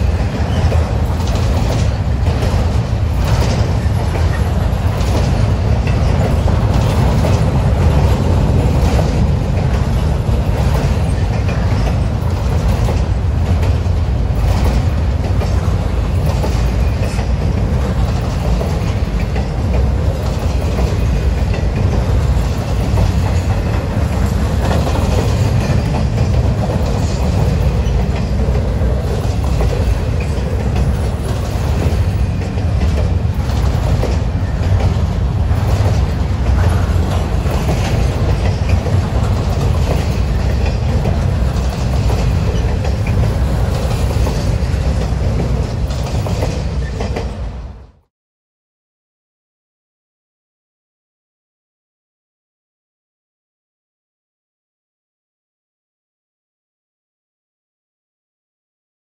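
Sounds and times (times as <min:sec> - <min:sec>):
wheels clicking over rail joints: 0:00.0 - 0:47.5
freight train rumbling past: 0:00.0 - 0:48.1.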